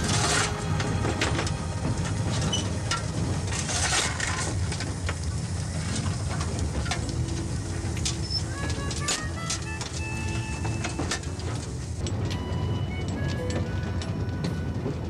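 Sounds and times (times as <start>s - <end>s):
knocks and rattles: 0.0s - 15.0s
railway carriage rumble: 0.0s - 15.0s.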